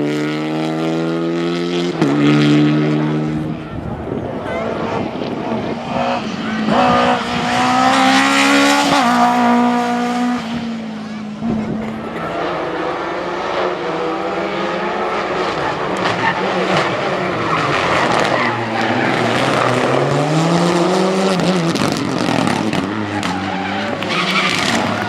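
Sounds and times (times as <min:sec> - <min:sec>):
rally car engine at full throttle: 0:00.0 - 0:25.0.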